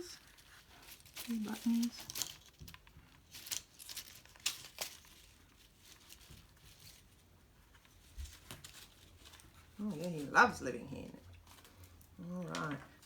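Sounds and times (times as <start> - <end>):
leaves and paper rustling: 0.0 - 13.0.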